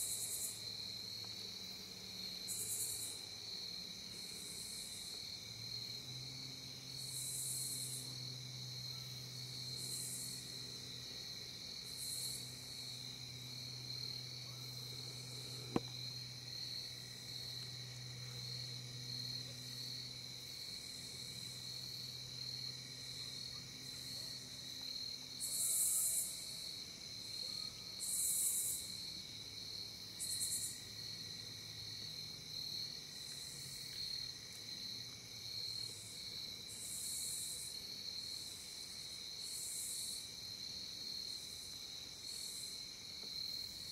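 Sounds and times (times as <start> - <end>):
high insect trill: 0.0 - 43.9.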